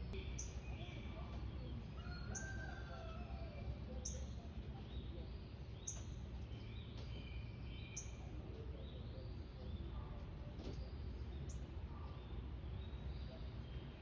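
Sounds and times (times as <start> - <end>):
small birds chirping: 0.0 - 2.6, 3.9 - 14.0.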